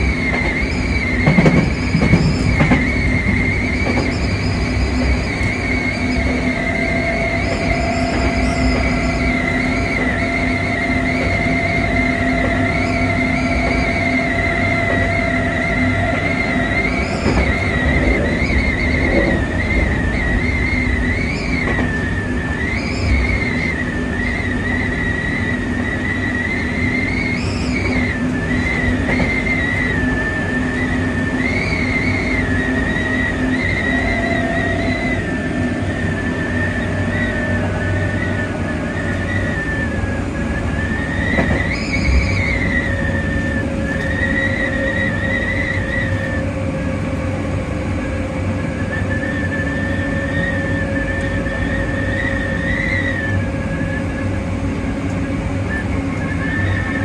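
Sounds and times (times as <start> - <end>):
electric train running: 0.0 - 57.0
high wavering tone: 0.0 - 57.0.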